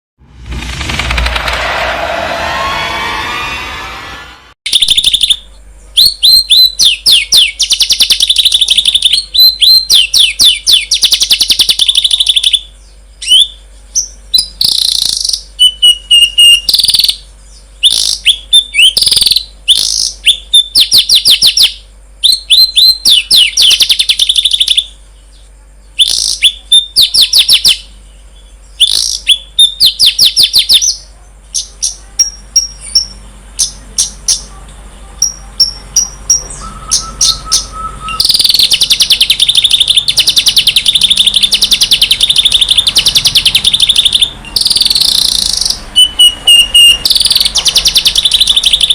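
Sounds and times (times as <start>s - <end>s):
songbird trilling: 4.7s - 34.5s, 35.2s - 48.9s.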